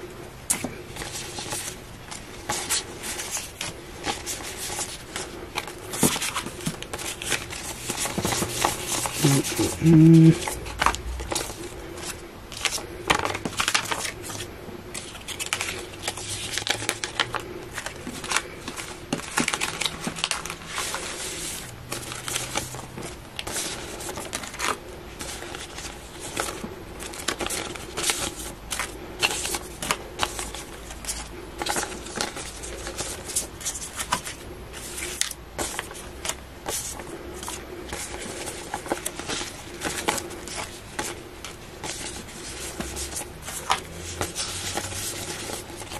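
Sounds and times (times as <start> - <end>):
plastic banknotes crackling: 0.6 - 45.9.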